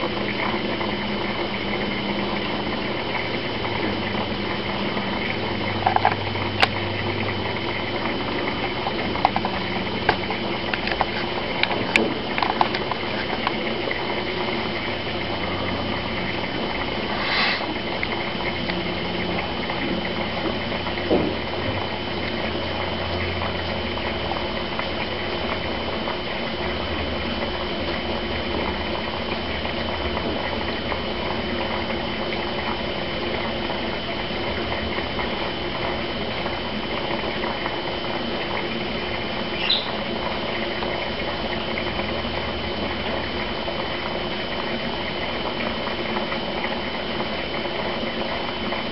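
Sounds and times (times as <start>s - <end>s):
bubbling and trickling water: 0.0s - 48.9s.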